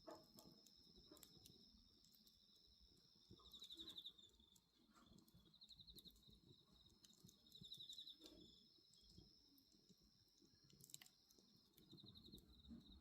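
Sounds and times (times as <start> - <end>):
bonfire crackling: 0.0 - 13.0
crickets chirping: 0.0 - 13.0.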